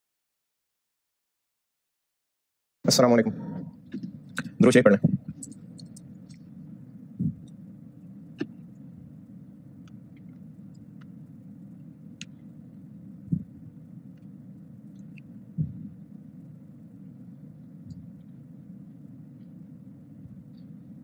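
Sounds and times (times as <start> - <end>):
low room hum: 2.8 - 21.0.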